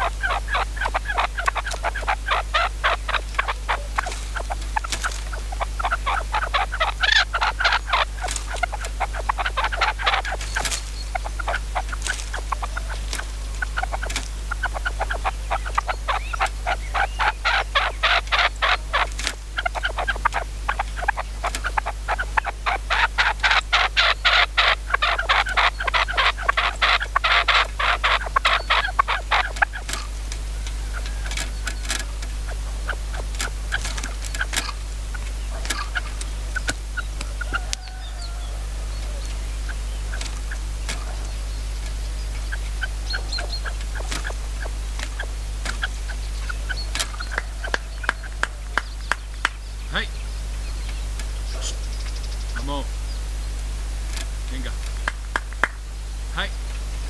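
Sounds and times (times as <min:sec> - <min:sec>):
partridges clucking: 0:00.0 - 0:50.1, 0:53.5 - 0:56.5.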